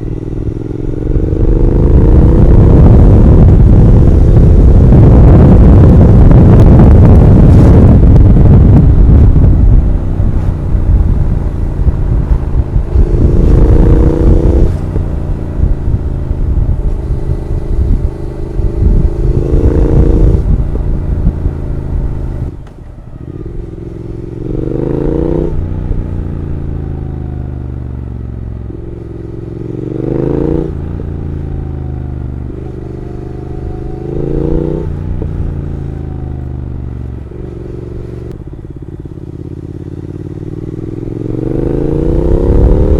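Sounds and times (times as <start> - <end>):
motorcycle engine revving: 0.0 - 42.9
wind rumble on microphone: 0.0 - 42.9.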